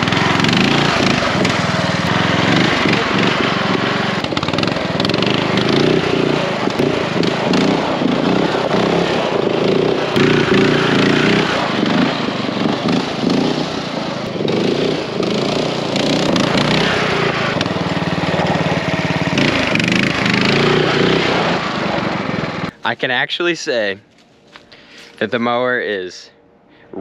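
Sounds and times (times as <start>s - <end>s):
riding lawn mower engine: 0.0s - 23.3s.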